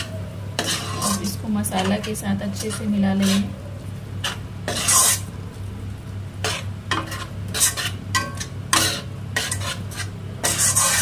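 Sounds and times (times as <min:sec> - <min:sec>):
metal spatula scraping a pan: 0:00.0 - 0:03.5, 0:04.2 - 0:05.3, 0:06.4 - 0:11.0
low sizzle: 0:00.0 - 0:11.0.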